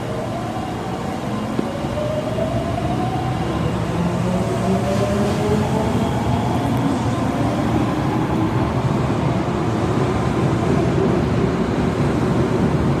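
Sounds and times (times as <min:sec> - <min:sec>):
subway car wheels and motors rumbling: 0:00.0 - 0:13.0.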